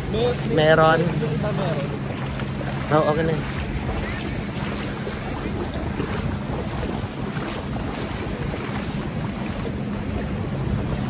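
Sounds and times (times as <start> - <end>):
boat engine hum: 0.0 - 11.0
wind buffeting microphone: 0.0 - 11.0.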